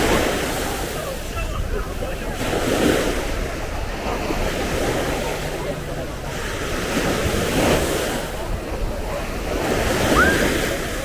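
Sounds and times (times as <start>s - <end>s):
waves washing onto beach: 0.0s - 11.0s
wind buffeting microphone: 0.0s - 11.0s.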